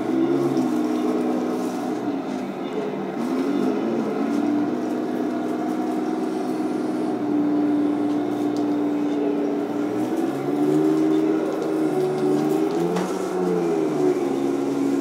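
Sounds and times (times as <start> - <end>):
simulated tank engine sound: 0.0 - 15.0.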